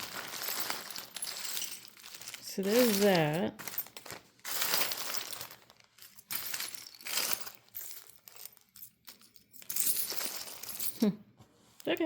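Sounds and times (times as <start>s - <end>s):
jewelry clinking and jangling: 0.0s - 12.0s.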